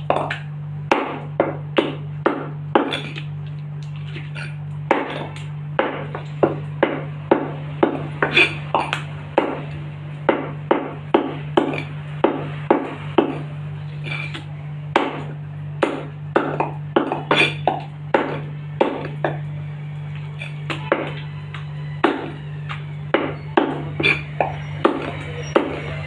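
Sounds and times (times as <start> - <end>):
cleaver chopping chicken: 0.0 - 3.3, 4.0 - 19.5, 20.1 - 26.0
steady low hum: 0.0 - 26.0.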